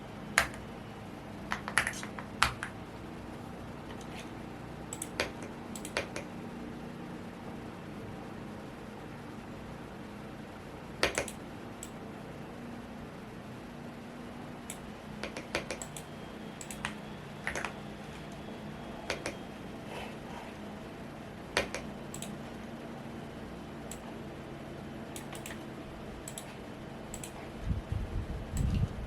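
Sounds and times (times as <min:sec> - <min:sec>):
steady fan hum: 0:00.0 - 0:29.0.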